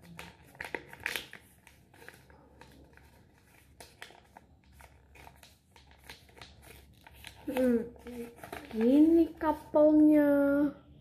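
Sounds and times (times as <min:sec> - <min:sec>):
paper rustling and crinkling: 0:00.0 - 0:10.2.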